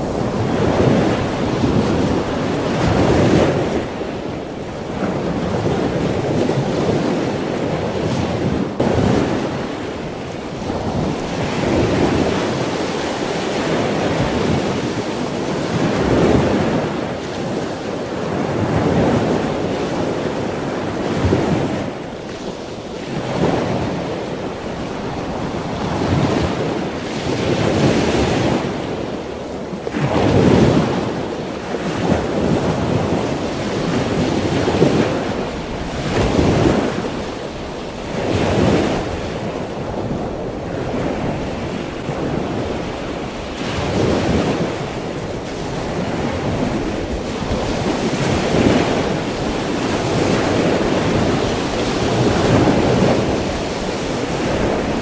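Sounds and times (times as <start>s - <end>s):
sea waves washing in: 0.0s - 55.0s.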